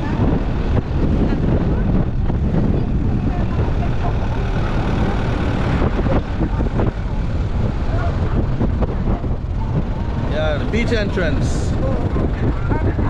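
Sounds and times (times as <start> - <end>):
car engine: 0.0 - 13.0
road rumble: 0.0 - 13.0.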